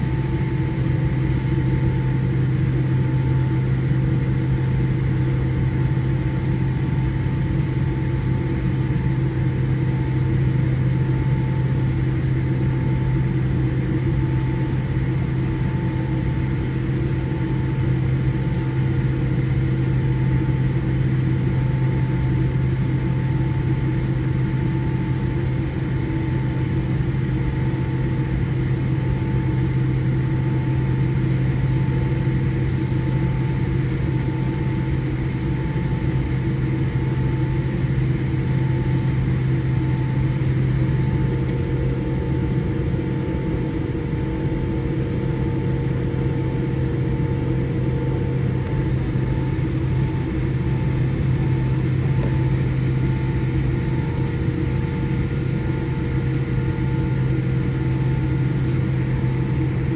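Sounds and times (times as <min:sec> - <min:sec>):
faint steady engine whine: 0:00.0 - 0:59.9
low aircraft cabin hum: 0:00.0 - 0:59.9.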